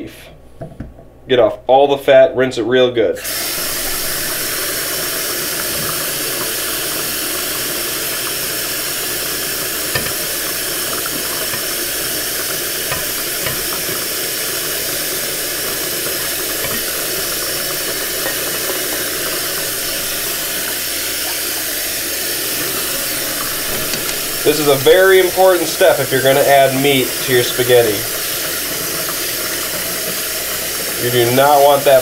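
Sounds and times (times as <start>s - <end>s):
tap water running: 3.2s - 32.0s.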